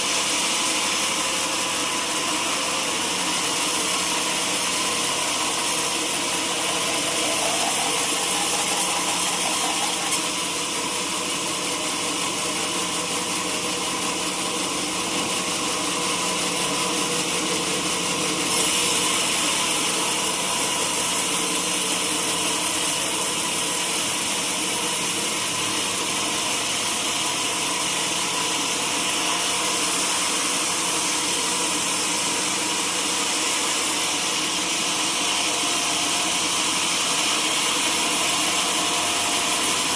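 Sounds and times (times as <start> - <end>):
sawmill saw whining: 0.0 - 12.3, 18.5 - 39.9.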